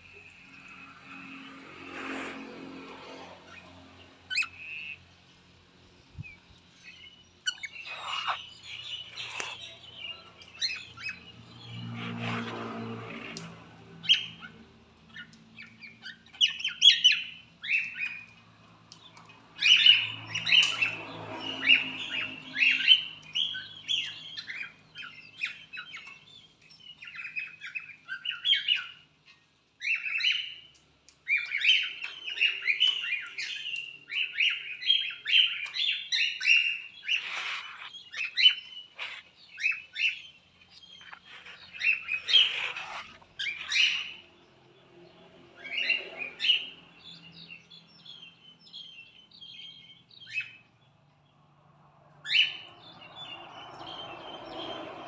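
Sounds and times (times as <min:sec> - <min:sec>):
cockatiels chirping and squawking: 0:01.8 - 0:05.0, 0:06.9 - 0:44.3, 0:45.6 - 0:50.6, 0:52.2 - 0:54.8.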